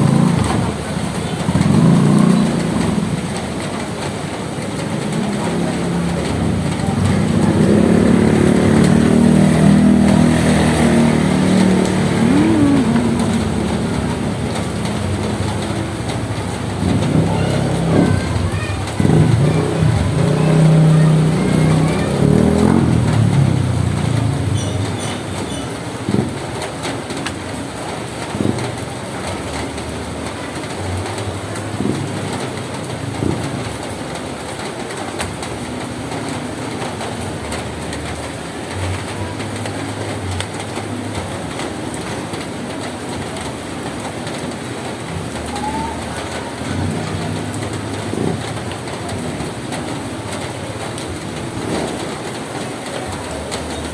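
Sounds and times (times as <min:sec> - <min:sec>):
rain on a roof: 0:00.0 - 0:53.9.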